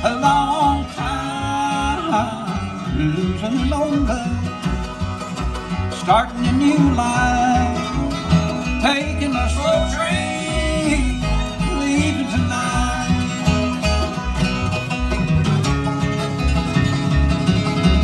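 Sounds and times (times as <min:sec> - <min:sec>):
bluegrass band playing: 0:00.0 - 0:18.0.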